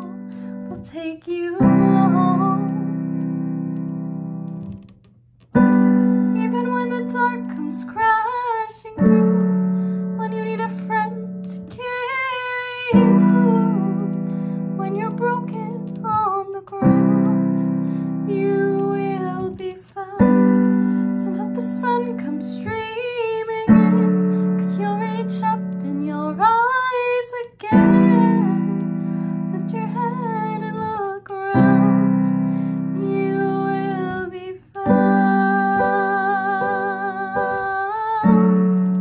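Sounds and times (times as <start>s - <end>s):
woman singing ballad: 0.0s - 3.0s, 6.4s - 38.8s
piano chords: 0.0s - 39.0s.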